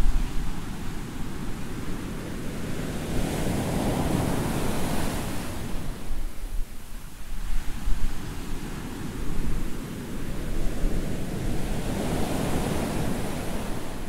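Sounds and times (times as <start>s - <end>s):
sea waves washing on shore: 0.0s - 14.0s.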